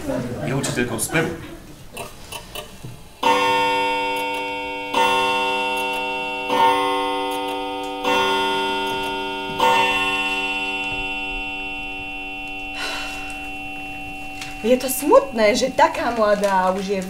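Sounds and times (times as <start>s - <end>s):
clock chiming: 2.6s - 17.0s.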